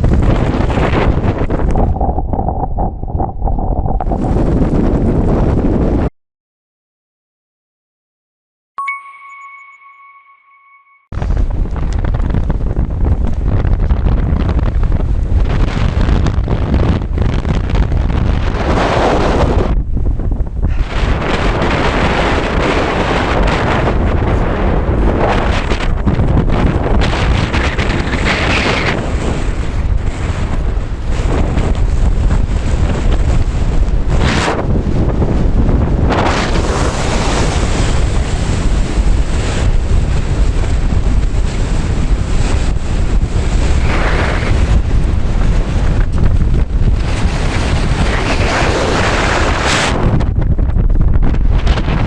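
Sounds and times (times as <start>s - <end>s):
strong wind buffeting microphone: 0.0s - 6.1s, 11.2s - 52.0s.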